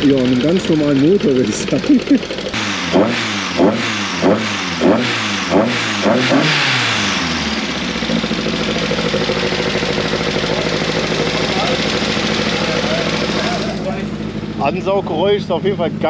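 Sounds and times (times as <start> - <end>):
car engine idling: 0.0 - 16.0
car engine revving: 0.0 - 16.0.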